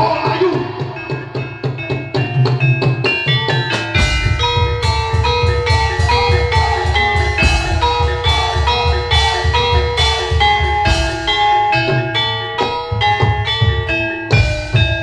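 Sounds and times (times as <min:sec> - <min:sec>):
fast drum beat: 0:00.0 - 0:15.0
metallophones and gongs ringing: 0:00.0 - 0:15.0.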